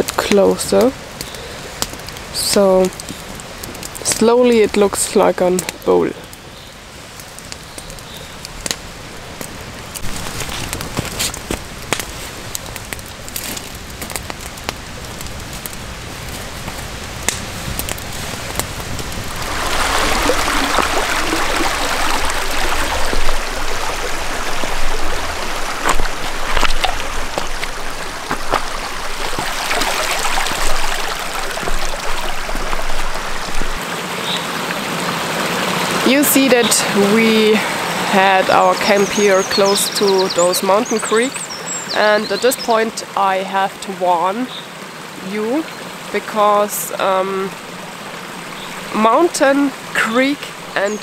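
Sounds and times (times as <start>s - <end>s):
creek rushing over stones: 0.0s - 51.0s
light rain patter: 0.0s - 51.0s.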